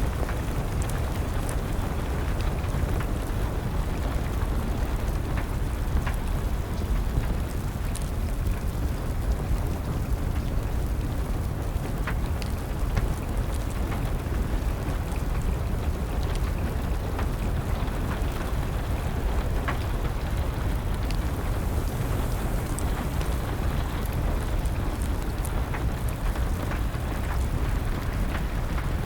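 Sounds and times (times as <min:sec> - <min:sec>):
fire crackling: 0:00.0 - 0:29.0
rain hiss: 0:00.0 - 0:29.0.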